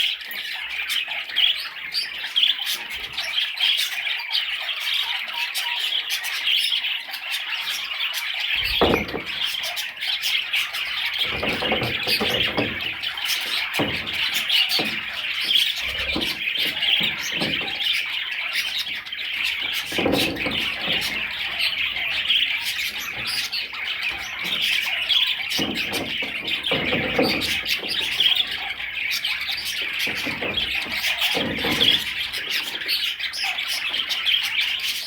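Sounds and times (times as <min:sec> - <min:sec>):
budgerigar warbling and chattering: 0:00.0 - 0:35.0.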